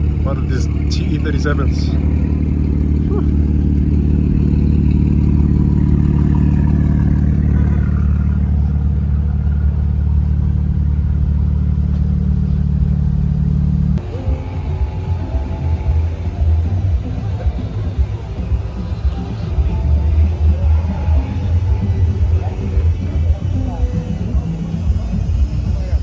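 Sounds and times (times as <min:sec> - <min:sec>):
car engine running steadily: 0:00.0 - 0:26.0.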